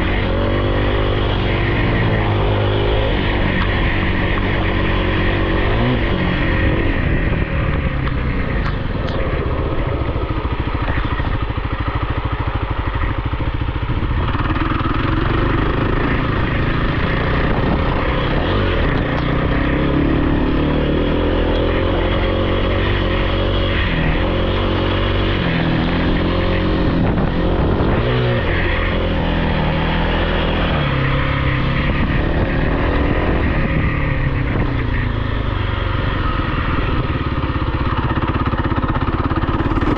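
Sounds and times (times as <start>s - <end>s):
small engine revving: 0.0s - 12.2s, 13.9s - 39.9s.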